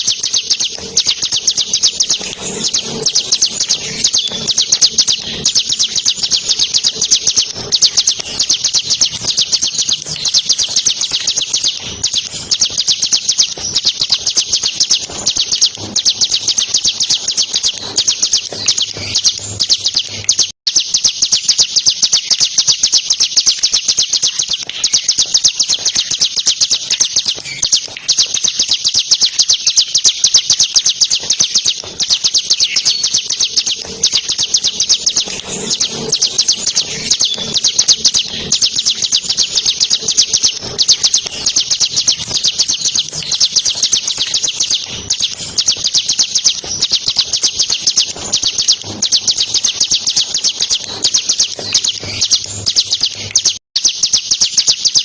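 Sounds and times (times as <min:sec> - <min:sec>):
bird singing rattling trill: 0:00.0 - 0:55.0.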